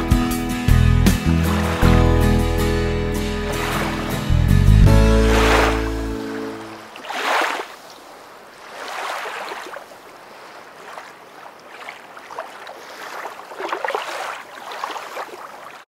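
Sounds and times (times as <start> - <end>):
water washing in swells: 1.2 - 15.9.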